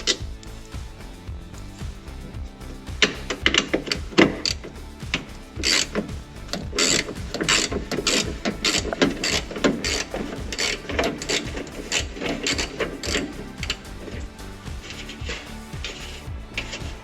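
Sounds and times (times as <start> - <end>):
ratchet wrench clicking: 0.0 - 17.0.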